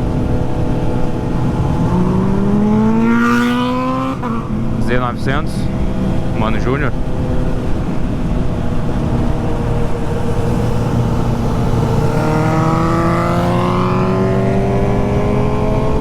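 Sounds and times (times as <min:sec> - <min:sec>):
motorcycle accelerating: 0:00.0 - 0:16.0
motorcycle engines running: 0:00.0 - 0:16.0.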